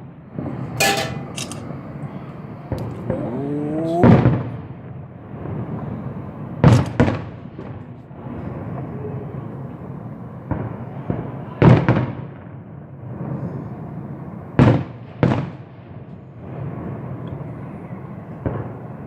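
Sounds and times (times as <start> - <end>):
firework bangs: 0.3 - 3.3, 3.9 - 9.0, 9.8 - 13.4, 14.5 - 19.0.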